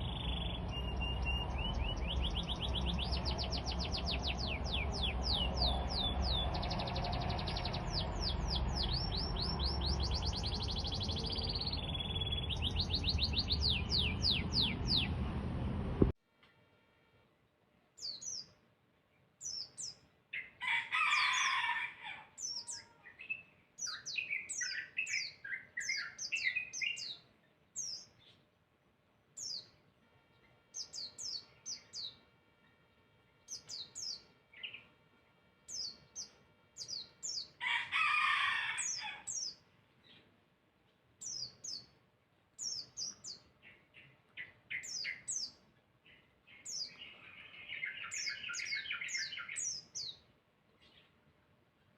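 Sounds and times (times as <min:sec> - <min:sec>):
songbird chirping: 0:00.0 - 0:16.5, 0:17.2 - 0:51.9.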